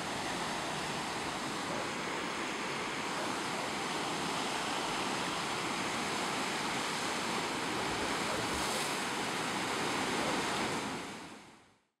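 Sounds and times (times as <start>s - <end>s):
sea surf washing: 0.0s - 11.4s.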